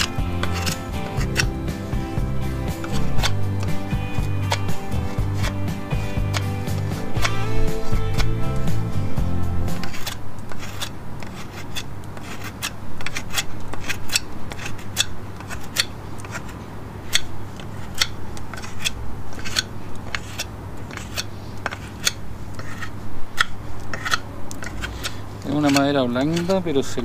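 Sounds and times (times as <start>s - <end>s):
pocketknife rasping into wood: 0.0s - 8.7s, 9.7s - 26.6s.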